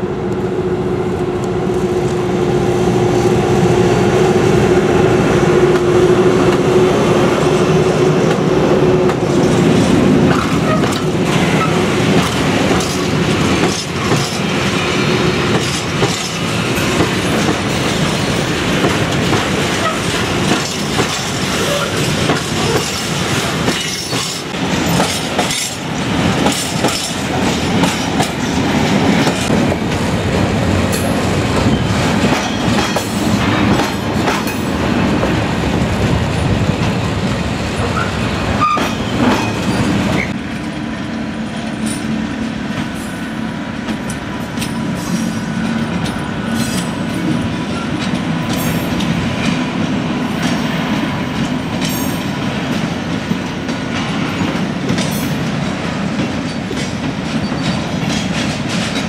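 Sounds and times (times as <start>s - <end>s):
locomotive whine: 0.0s - 58.4s
train wheels clattering: 8.1s - 40.8s, 41.5s - 59.0s.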